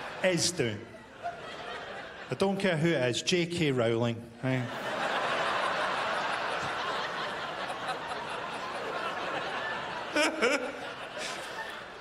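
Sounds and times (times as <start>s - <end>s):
audience laughing: 0.0s - 2.6s, 4.5s - 12.0s.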